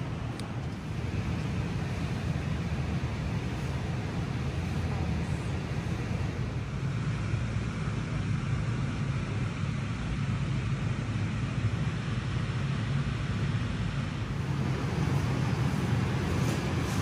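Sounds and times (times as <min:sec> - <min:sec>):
faint hiss: 0:00.0 - 0:17.0
steady low rumble: 0:00.0 - 0:17.0.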